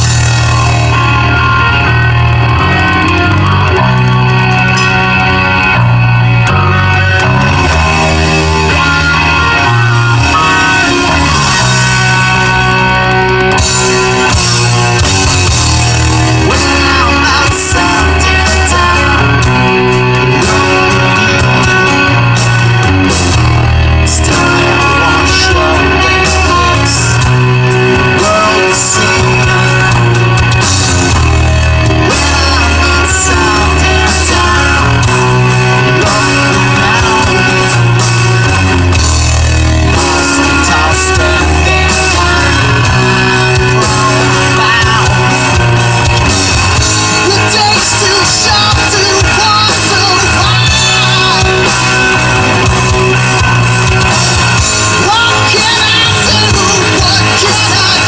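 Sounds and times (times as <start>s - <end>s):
loud rock song with singing: 0.0s - 58.0s.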